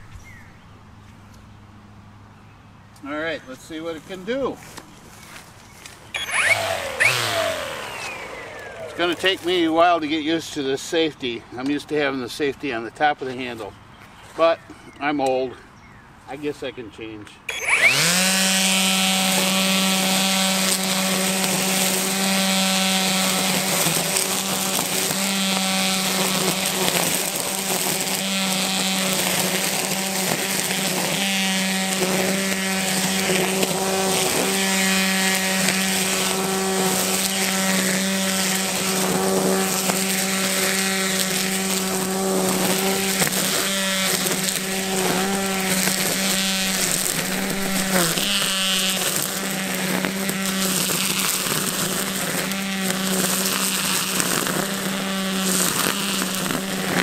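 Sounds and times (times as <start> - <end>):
string trimmer whining: 3.7 - 10.9, 17.5 - 57.0.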